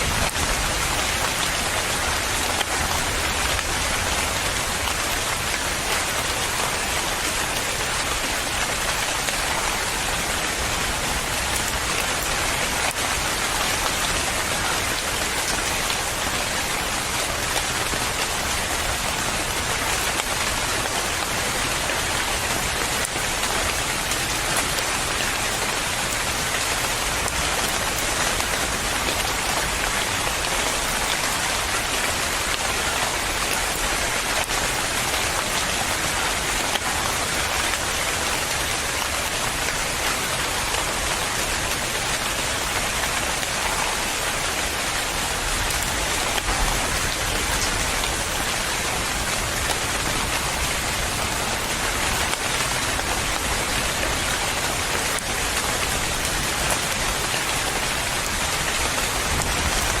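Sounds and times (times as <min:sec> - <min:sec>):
rain falling on a surface: 0:00.0 - 1:00.0.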